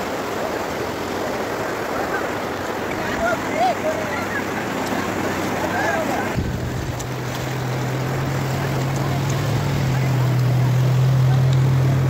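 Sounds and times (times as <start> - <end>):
water washing: 0.0 - 12.0
motorcycle engine humming: 1.6 - 12.0.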